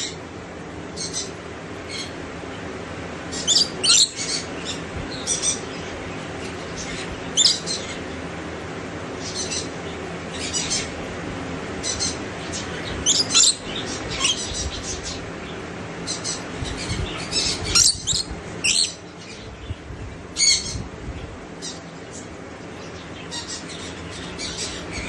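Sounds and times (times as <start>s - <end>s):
birds chirping and squawking: 0.8s - 25.0s.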